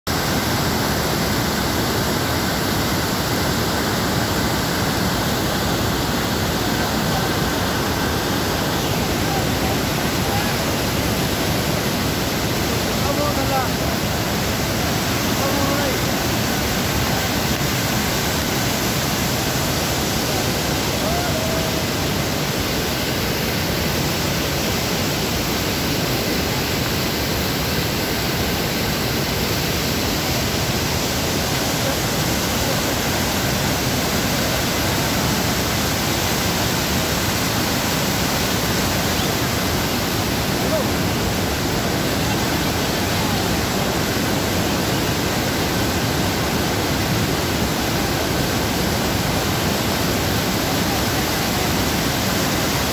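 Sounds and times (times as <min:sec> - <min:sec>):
stream rushing over boulders: 0:00.1 - 0:52.9.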